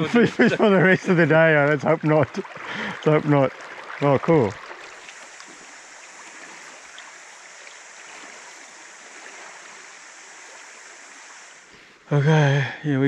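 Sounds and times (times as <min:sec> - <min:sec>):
river flowing over stones: 0:00.0 - 0:11.8.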